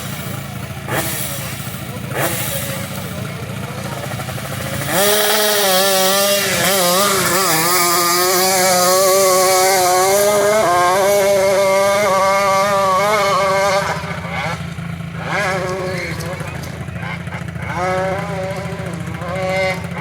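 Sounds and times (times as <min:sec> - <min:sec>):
dirt bike engine at high revs: 0:00.0 - 0:20.0.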